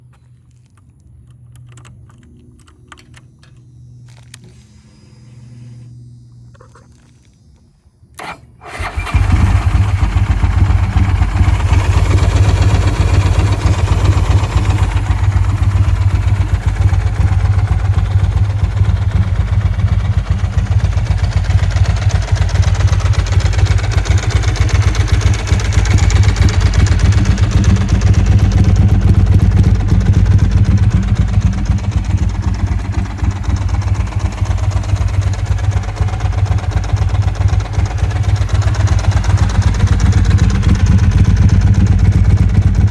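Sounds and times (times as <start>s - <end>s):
motorcycle engine starting and idling: 0.0s - 4.8s, 8.1s - 42.9s.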